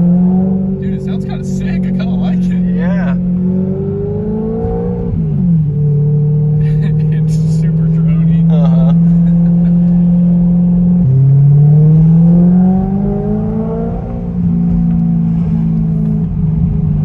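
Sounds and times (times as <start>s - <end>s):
loud drony car exhaust: 0.0s - 17.0s.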